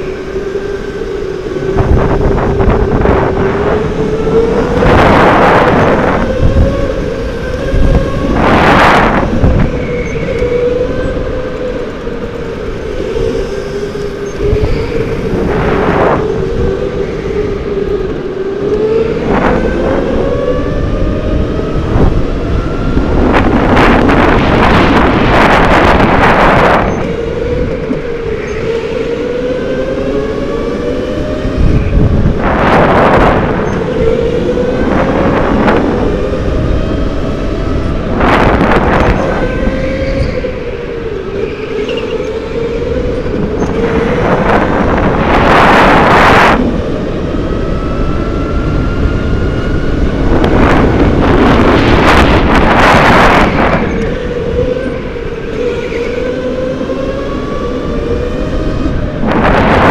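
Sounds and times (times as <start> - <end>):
go-kart motor running: 0.0 - 59.9
loud rushes of noise: 0.0 - 59.9.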